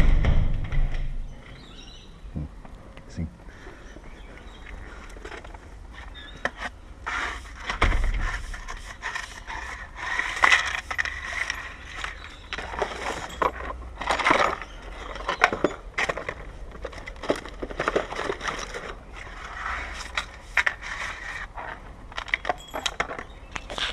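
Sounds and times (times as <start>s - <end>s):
hard objects scraping and clicking: 4.4s - 23.9s.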